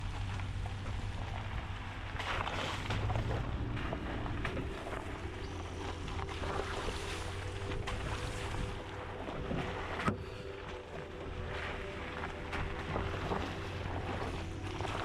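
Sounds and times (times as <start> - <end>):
water noise from kayak: 0.0 - 15.0
wind rumbling on microphone: 0.0 - 15.0.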